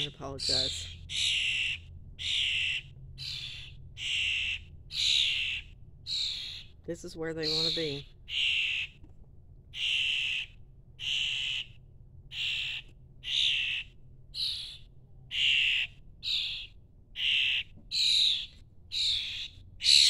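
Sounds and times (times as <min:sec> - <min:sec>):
fledglings' raspy begging calls: 0:00.0 - 0:09.0, 0:09.7 - 0:20.0.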